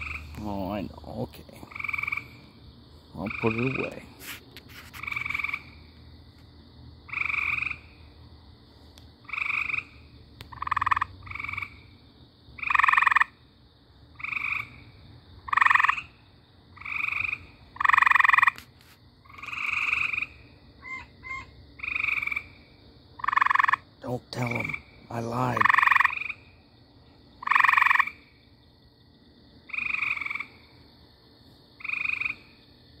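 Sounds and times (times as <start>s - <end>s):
frog calling: 0.0s - 6.0s, 7.0s - 8.2s, 9.2s - 28.5s, 29.6s - 30.8s, 31.8s - 32.8s.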